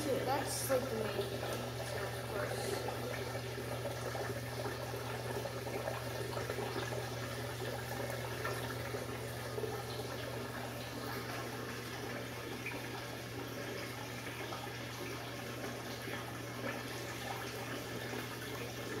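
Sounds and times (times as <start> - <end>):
water swirling and trickling: 0.0 - 19.0.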